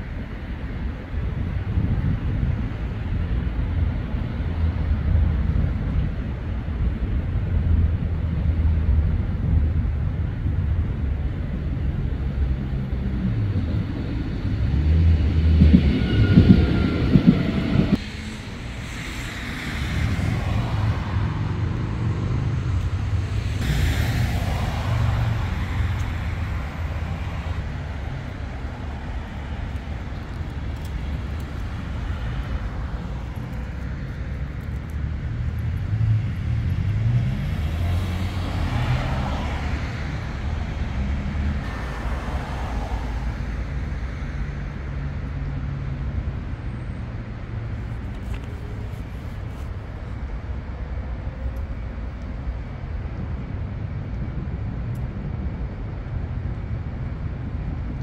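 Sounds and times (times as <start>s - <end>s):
traffic rumble: 0.0s - 58.0s
vehicles passing by: 0.0s - 58.0s.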